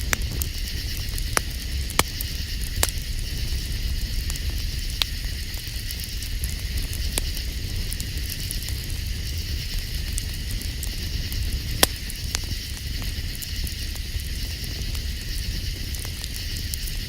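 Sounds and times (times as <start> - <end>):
campfire hissing: 0.0 - 17.0
fire crackling and popping: 0.0 - 17.0.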